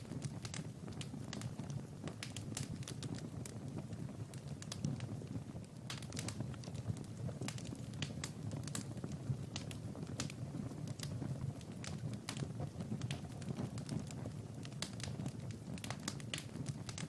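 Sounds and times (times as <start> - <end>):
low rumble of burning: 0.0 - 17.0
wood fire crackling and popping: 0.0 - 17.0.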